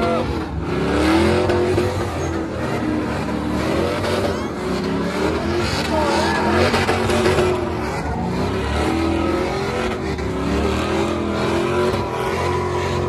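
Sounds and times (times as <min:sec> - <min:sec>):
tires spinning on pavement: 0:00.0 - 0:13.0
truck engine revving: 0:00.0 - 0:13.0.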